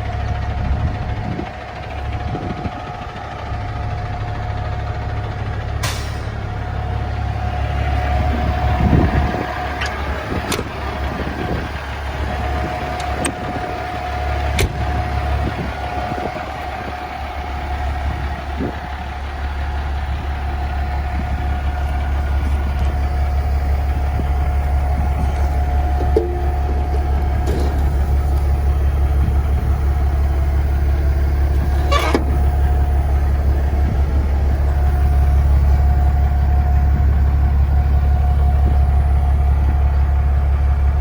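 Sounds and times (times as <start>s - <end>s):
truck engine idling: 0.0s - 41.0s
constant tone: 6.2s - 40.5s.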